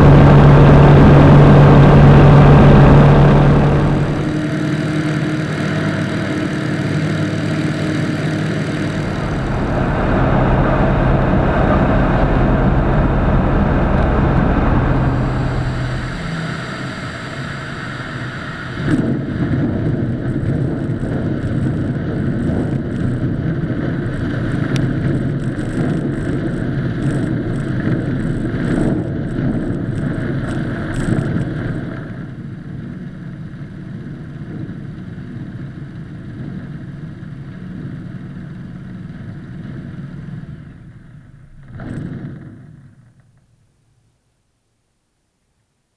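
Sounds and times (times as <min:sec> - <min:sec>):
aircraft engine and propeller: 0:00.0 - 0:43.2.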